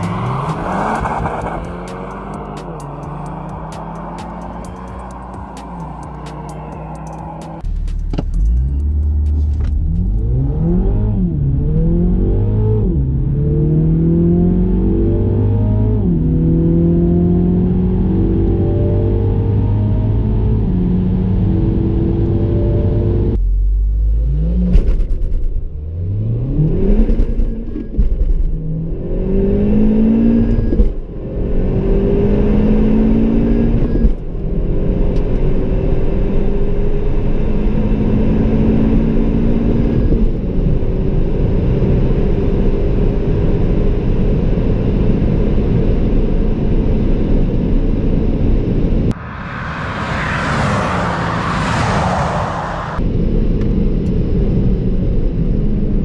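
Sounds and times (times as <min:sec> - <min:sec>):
car engine accelerating through gears: 0:00.0 - 0:53.2
car engine at speed: 0:00.0 - 0:56.0.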